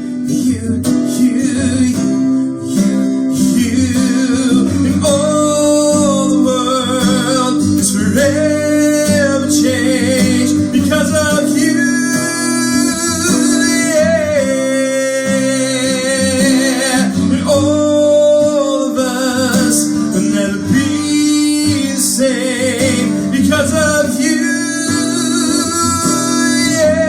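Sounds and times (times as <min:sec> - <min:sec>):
guitar accompaniment: 0:00.0 - 0:27.0
man singing with vibrato: 0:00.0 - 0:27.0.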